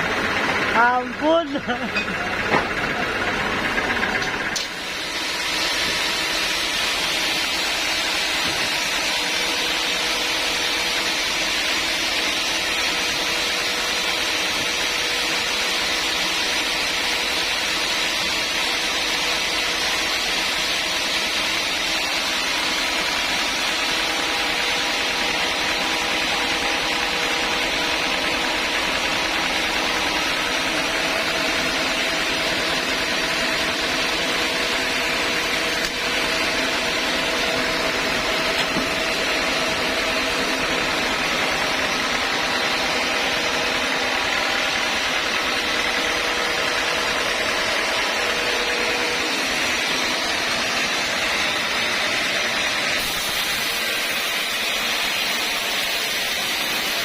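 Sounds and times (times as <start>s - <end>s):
sawmill saw running: 0.0s - 57.0s.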